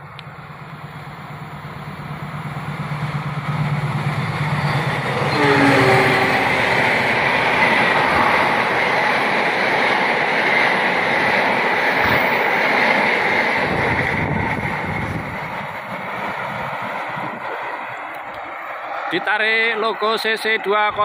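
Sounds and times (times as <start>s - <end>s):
train carriages rushing past: 0.0s - 21.0s.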